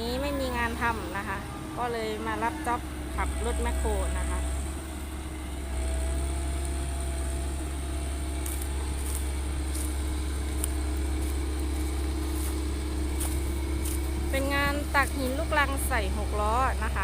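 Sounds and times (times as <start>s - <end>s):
heavy diesel machinery droning: 0.0s - 17.0s.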